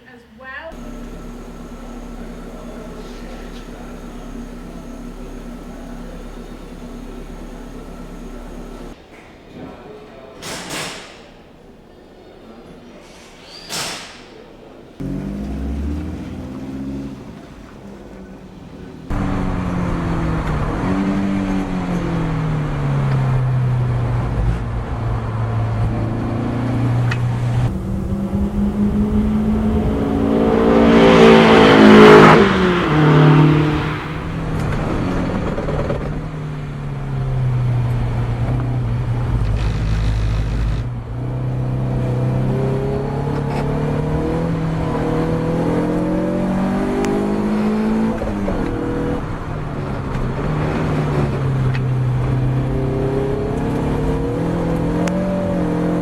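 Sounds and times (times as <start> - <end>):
race car engine revving: 0.7 - 9.0, 15.0 - 56.0.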